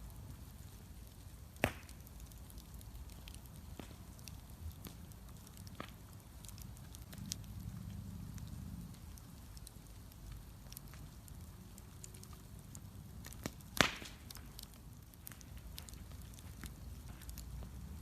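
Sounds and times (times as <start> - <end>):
bonfire rumbling and crackling: 0.0 - 18.0.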